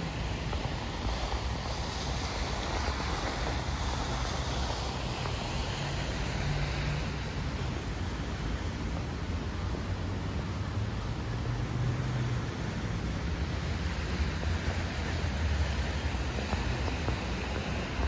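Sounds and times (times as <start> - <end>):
fountain water splashing: 0.0 - 18.0
wind on microphone: 0.0 - 18.0.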